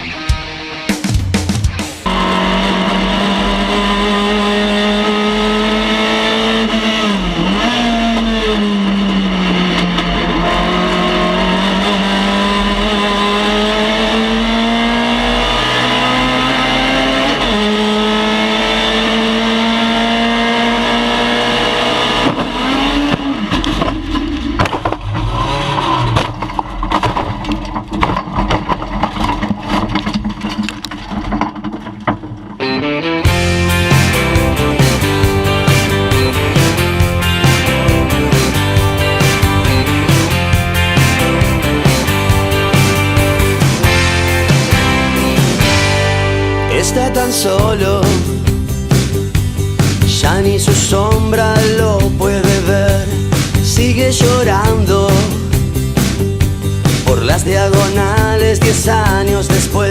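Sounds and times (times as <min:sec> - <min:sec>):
car engine revving: 0:00.0 - 0:27.3, 0:31.8 - 0:59.9.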